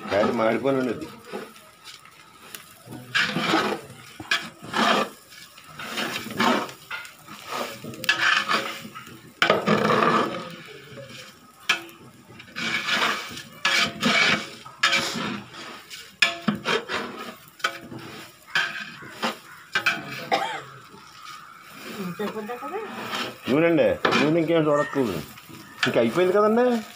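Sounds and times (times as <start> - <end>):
metal spatula scraping pot: 0.0 - 26.9.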